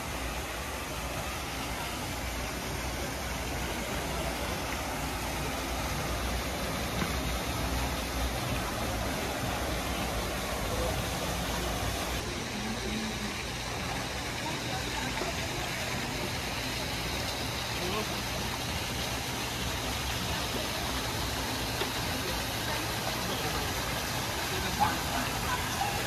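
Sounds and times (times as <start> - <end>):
rumbling outdoor background hiss: 0.0 - 26.0.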